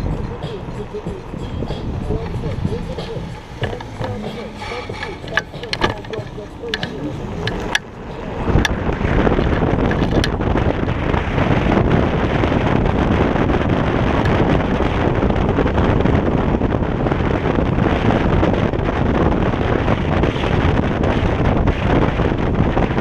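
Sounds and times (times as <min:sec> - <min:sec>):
tyres rumbling on road: 0:00.0 - 0:23.0
wind buffeting microphone: 0:00.0 - 0:23.0.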